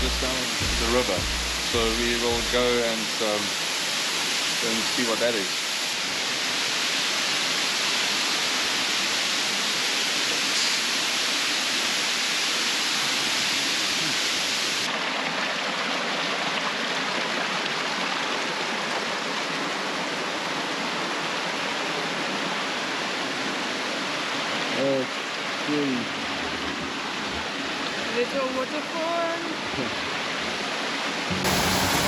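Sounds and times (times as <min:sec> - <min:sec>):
river water rushing: 0:02.8 - 0:32.0.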